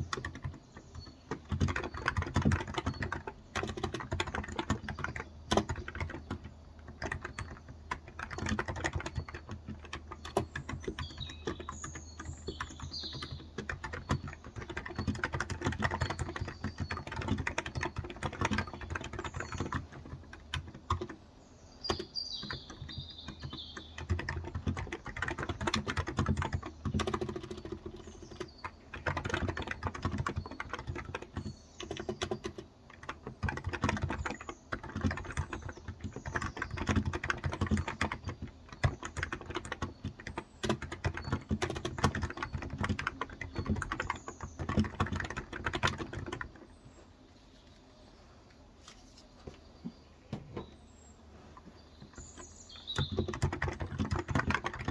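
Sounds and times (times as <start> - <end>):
fast keyboard typing: 0.0 - 46.9, 51.6 - 54.9
birds chirping: 0.0 - 54.9.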